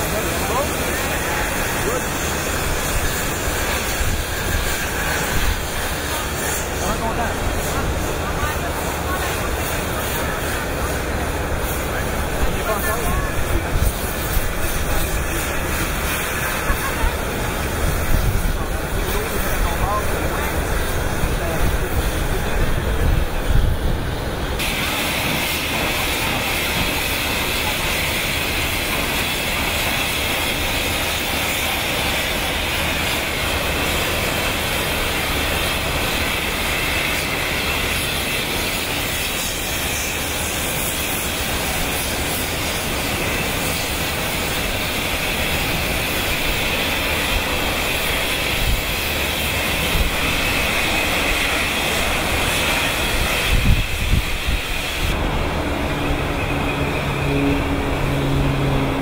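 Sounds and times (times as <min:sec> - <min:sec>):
machinery running: 0:00.0 - 0:59.0.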